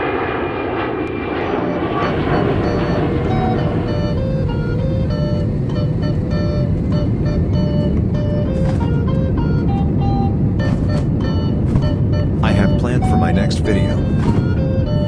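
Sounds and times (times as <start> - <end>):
airliner engine and cabin rumble: 0.0 - 15.0
melody of short repeated notes: 2.0 - 15.0.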